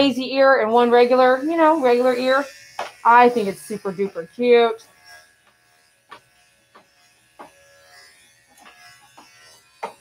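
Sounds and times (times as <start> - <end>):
electric hair clipper running: 0.0 - 10.0.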